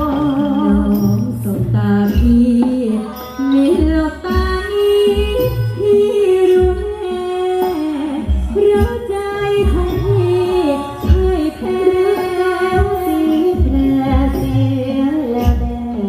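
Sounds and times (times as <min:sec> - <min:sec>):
live band playing: 0:00.0 - 0:16.0
woman singing into microphone: 0:00.0 - 0:16.0.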